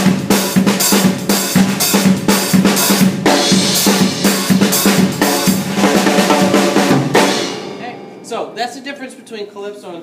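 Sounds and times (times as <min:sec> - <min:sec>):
drum kit playing up-tempo groove: 0:00.0 - 0:10.0.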